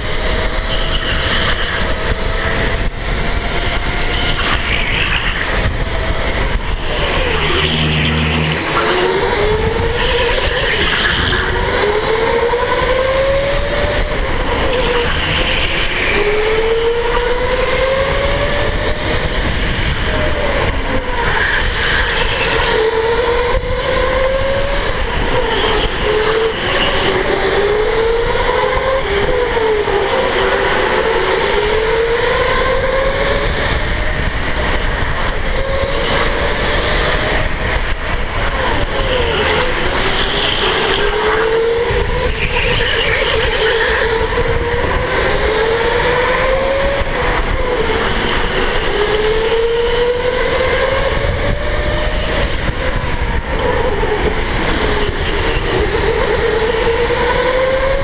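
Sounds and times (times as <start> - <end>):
electric go-kart motor whining: 0.0 - 58.0
steady rushing noise: 0.0 - 58.0.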